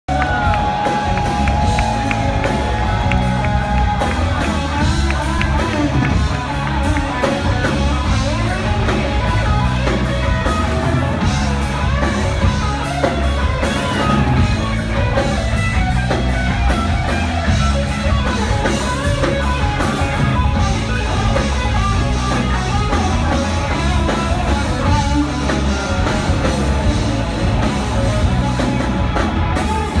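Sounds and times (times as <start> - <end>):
drum kit: 0.1 - 30.0
electric guitars: 0.1 - 30.0.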